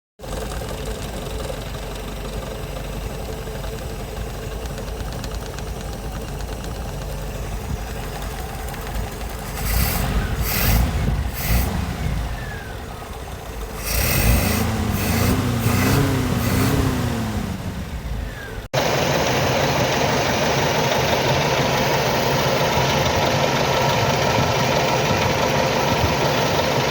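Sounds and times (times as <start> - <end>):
car engine idling and revving: 0.2 - 26.9.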